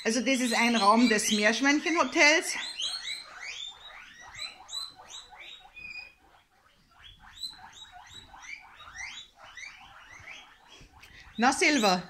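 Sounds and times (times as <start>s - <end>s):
guinea pigs wheeking: 0.0s - 12.0s.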